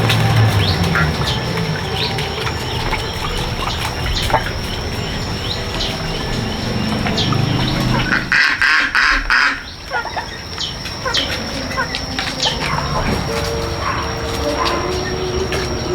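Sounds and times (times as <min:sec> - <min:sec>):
birds chirping: 0:00.0 - 0:15.9
raspy bird calls: 0:00.0 - 0:15.9.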